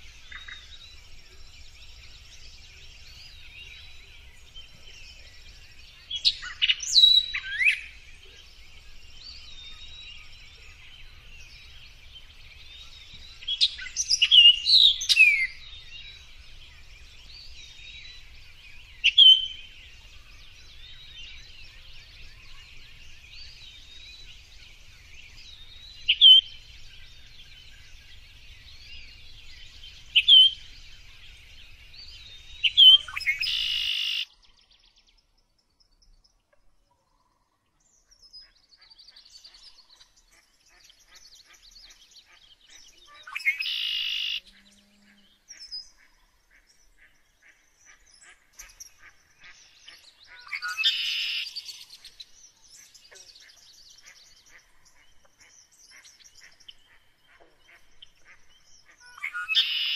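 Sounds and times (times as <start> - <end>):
background bird chorus: 0.0 - 59.9.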